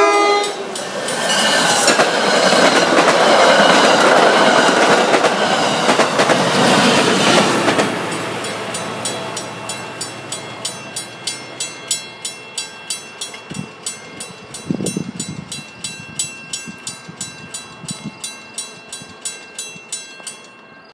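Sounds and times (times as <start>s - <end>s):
crossing bell ringing: 0.0s - 20.9s
train wheels clattering: 0.4s - 20.7s.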